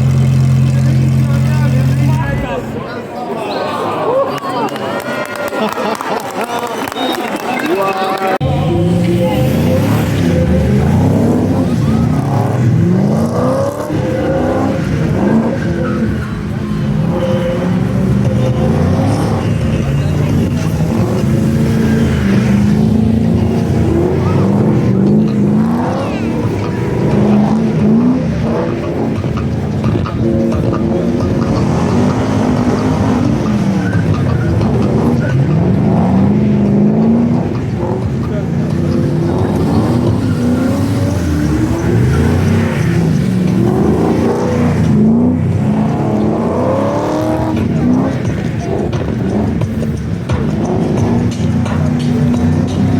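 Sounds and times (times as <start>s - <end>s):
car engine running: 0.0s - 2.8s, 8.4s - 52.9s.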